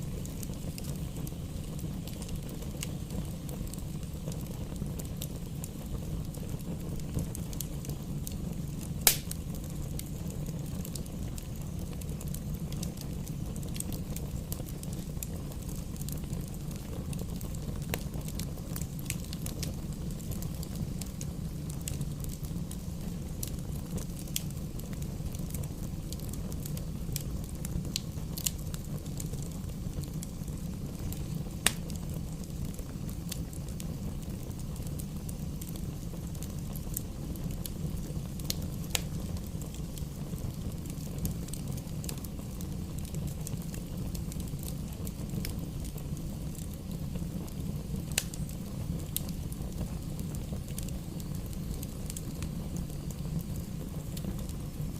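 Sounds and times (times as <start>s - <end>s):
bonfire crackling: 0.0s - 54.9s.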